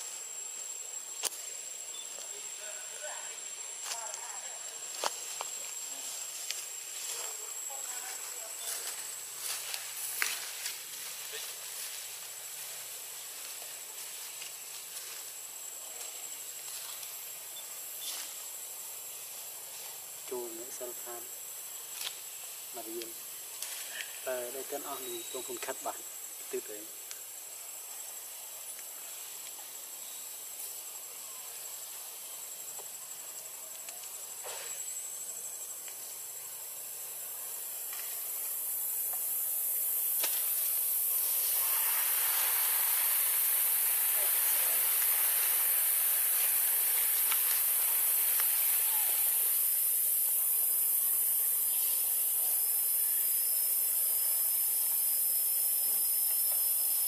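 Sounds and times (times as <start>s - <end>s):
insects hissing: 0.0s - 57.0s.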